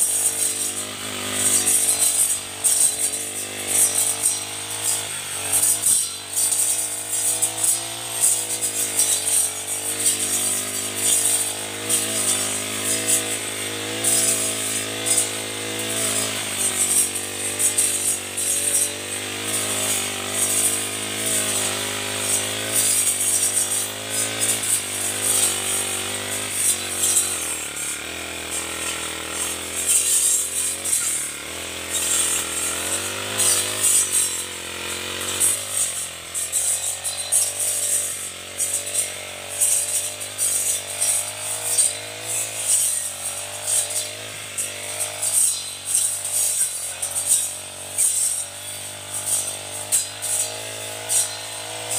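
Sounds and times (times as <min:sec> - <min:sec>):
brush cutter engine running hard: 0:00.0 - 0:51.9
cut vegetation thrashing: 0:00.0 - 0:51.9.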